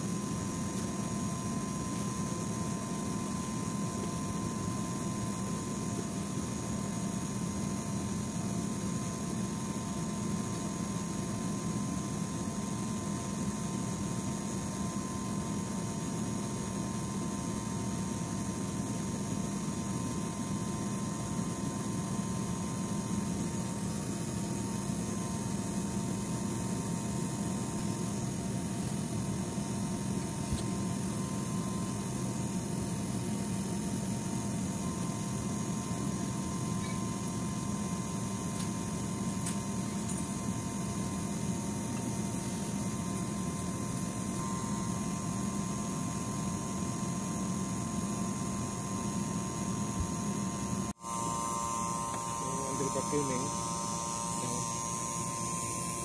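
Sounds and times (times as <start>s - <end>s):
machinery drone with hum: 0.0s - 56.0s.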